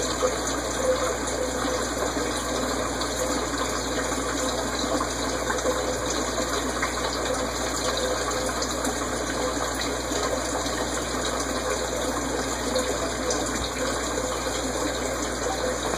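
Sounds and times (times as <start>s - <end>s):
aquarium pump hum: 0.0s - 15.9s.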